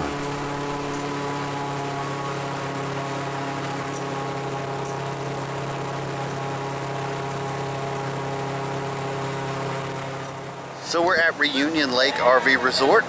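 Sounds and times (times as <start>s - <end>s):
airboat engine and propeller drone: 0.0s - 13.0s.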